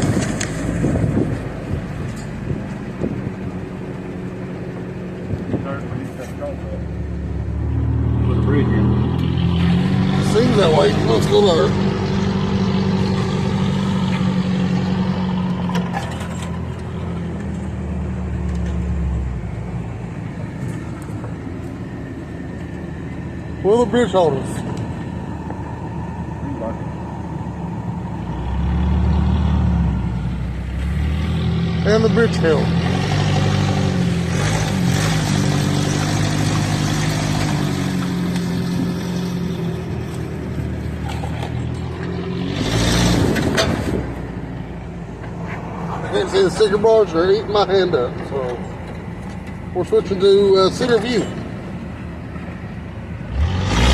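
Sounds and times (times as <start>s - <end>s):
off-road vehicle engine running: 0.0s - 53.9s.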